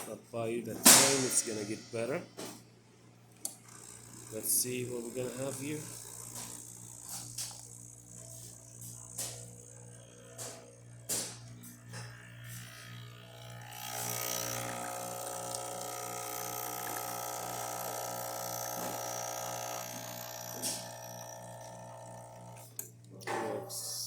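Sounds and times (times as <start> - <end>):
espresso machine hiss: 0.8 - 2.3, 3.4 - 22.9
espresso machine pump buzzing: 0.8 - 24.0.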